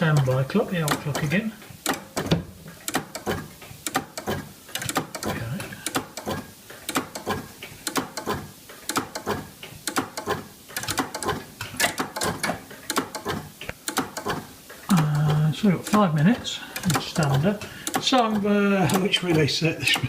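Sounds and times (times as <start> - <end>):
clock relays clicking and clattering: 0.0 - 20.0.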